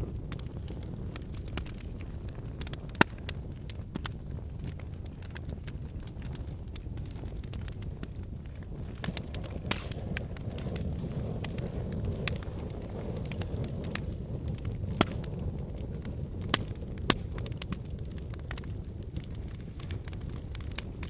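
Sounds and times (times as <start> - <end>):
fire crackling and popping: 0.0 - 21.0
fire rumbling in fireplace: 0.0 - 21.0.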